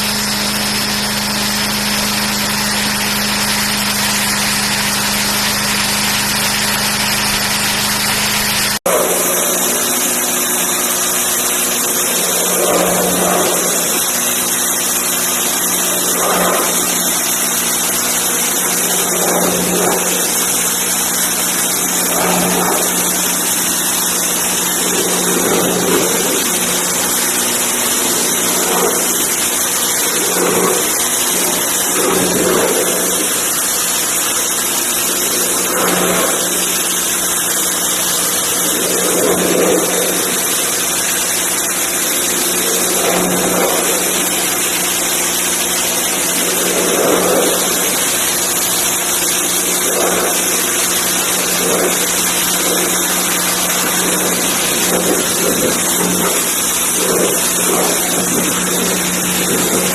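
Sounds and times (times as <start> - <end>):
high-pressure water jet hissing: 0.0 - 59.9
pressure washer pump humming: 0.0 - 59.9.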